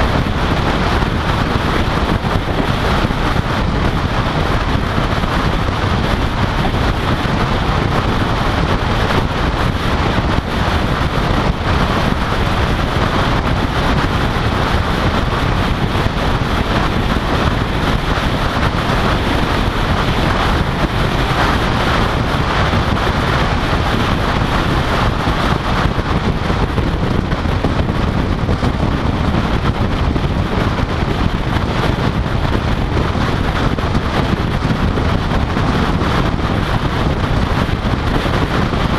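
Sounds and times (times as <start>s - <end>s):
tyre and road noise: 0.0s - 38.9s
wind rushing over microphone: 0.0s - 38.9s.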